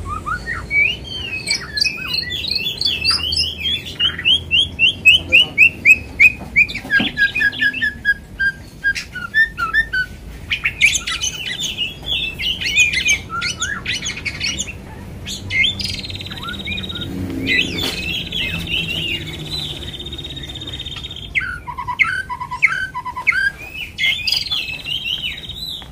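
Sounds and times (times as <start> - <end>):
bird singing varied song: 0.0 - 25.9.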